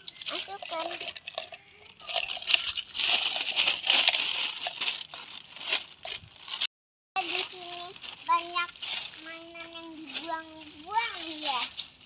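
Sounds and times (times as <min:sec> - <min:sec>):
crinkling and rustling: 0:00.0 - 0:12.0.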